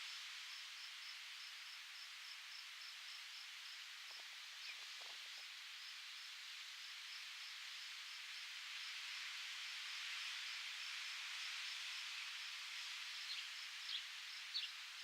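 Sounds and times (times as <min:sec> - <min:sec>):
wind hissing through foliage: 0:00.0 - 0:15.0.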